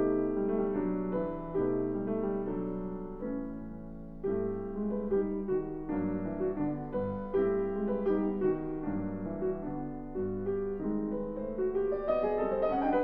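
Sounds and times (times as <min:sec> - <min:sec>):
grand piano classical piece: 0:00.0 - 0:13.0.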